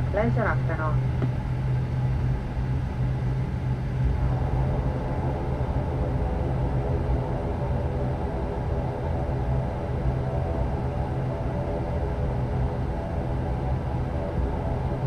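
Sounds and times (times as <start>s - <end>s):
low drone of turboprop engines: 0.0s - 15.0s.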